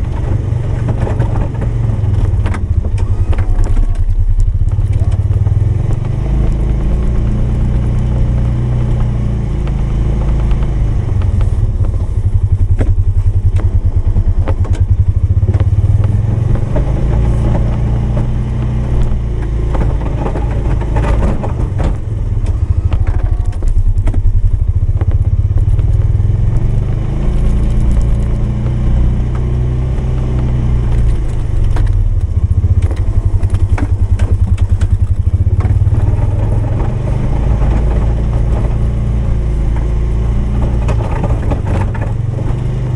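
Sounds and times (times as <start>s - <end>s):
clunks: 0.0s - 42.9s
engine running under load: 0.0s - 42.9s.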